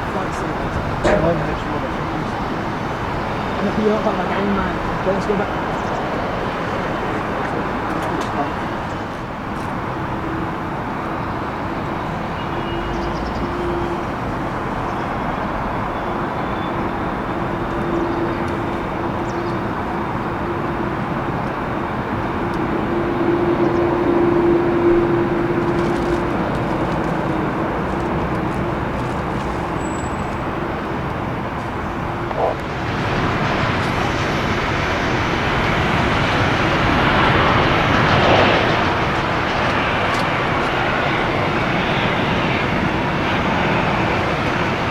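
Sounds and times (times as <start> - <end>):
distant jet engines rumbling: 0.0 - 44.9.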